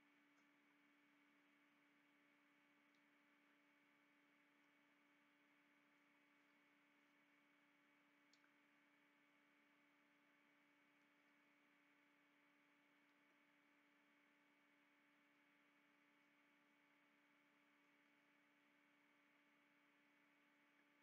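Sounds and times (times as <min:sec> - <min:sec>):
faint hum and hiss: 0:00.0 - 0:21.0.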